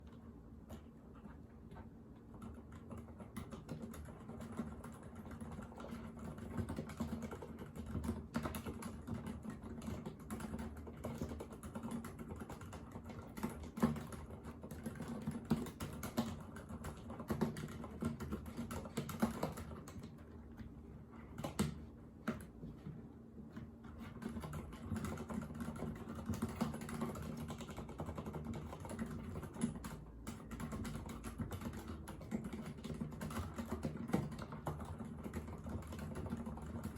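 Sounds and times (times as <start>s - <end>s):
typing on mechanical keyboard: 2.3s - 20.3s, 21.4s - 22.5s, 23.9s - 36.9s.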